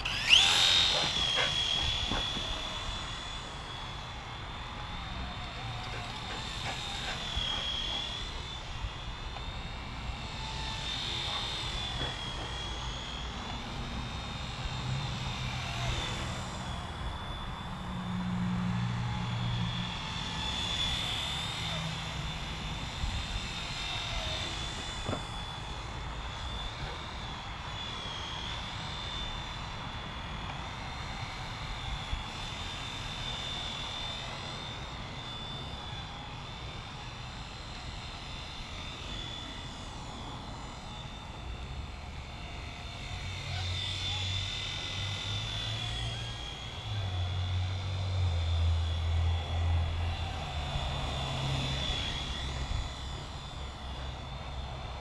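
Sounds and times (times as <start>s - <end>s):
toy helicopter motor whine: 0.0s - 55.0s.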